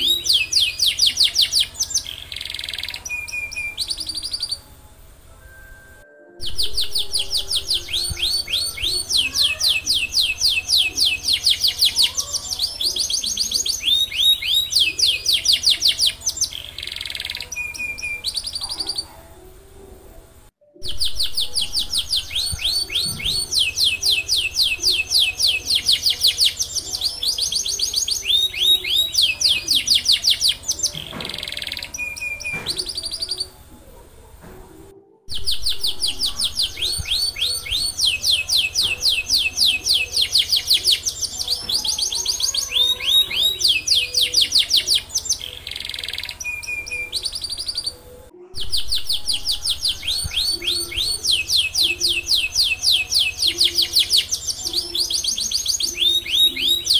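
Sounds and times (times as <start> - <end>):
canary singing: 0.0 - 34.4, 35.2 - 56.9.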